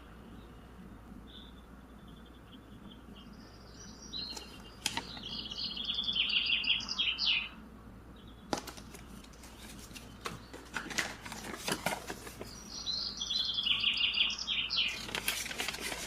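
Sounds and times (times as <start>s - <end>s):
small bird chirping: 0.0s - 10.8s, 12.2s - 15.3s.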